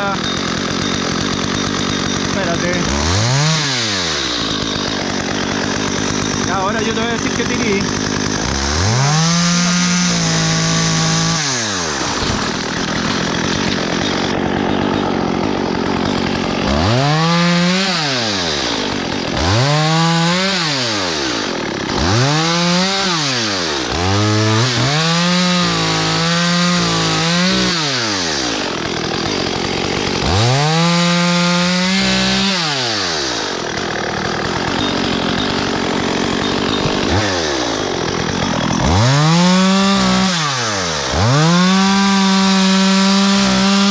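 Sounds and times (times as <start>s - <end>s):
chainsaw revving and idling: 0.0s - 43.9s.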